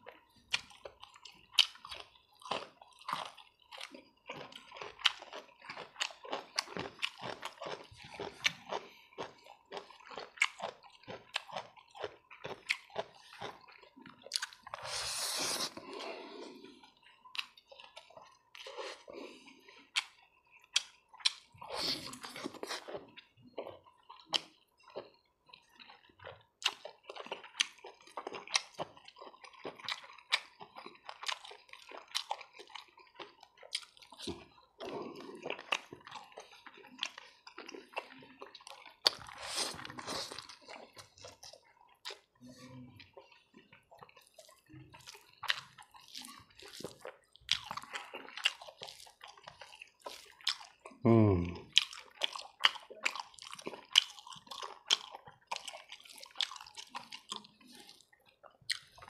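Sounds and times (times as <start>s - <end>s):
wet chewing and smacking: 0.0s - 59.0s.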